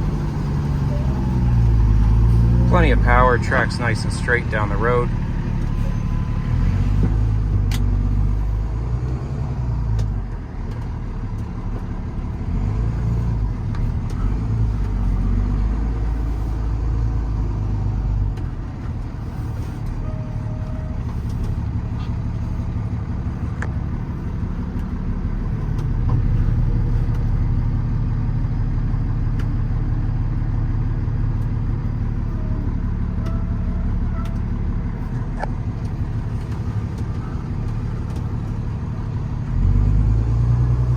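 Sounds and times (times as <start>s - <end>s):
diesel truck engine running: 0.0s - 40.9s
road noise: 0.0s - 40.9s.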